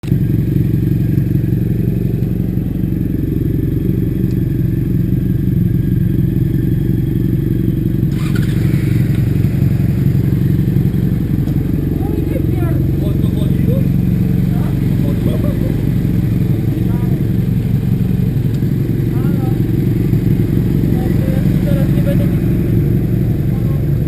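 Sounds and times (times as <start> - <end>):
bike rumbling on the move: 0.0 - 24.0.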